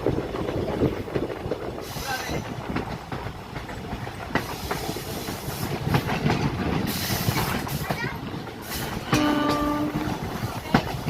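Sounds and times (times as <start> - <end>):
train carriages rumbling: 0.0 - 11.0
wheels clicking on track: 0.0 - 11.0.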